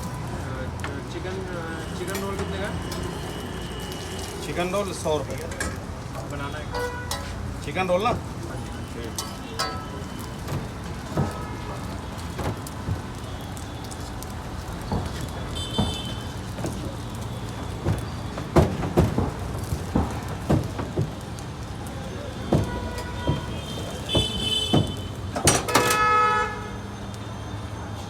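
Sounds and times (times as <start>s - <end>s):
griddle sizzling: 0.0s - 28.0s.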